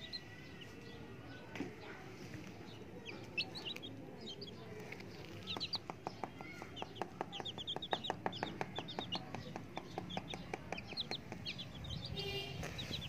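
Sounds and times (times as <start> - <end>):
beaks pecking concrete: 0.0 - 13.0
chicks peeping: 0.0 - 13.0.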